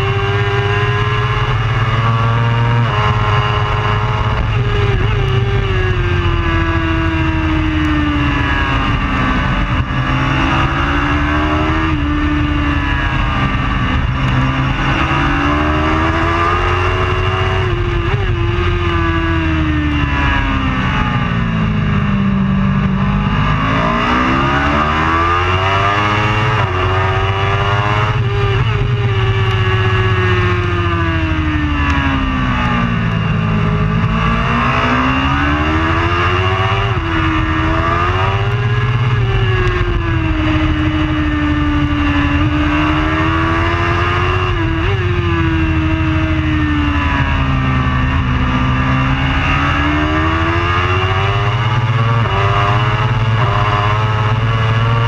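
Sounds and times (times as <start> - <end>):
superbike engine at high revs: 0.0 - 55.0.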